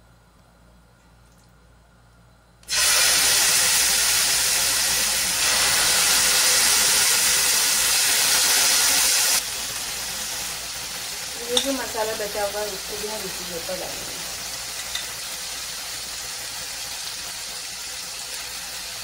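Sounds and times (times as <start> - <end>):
meat sizzling in hot oil: 2.7 - 19.0.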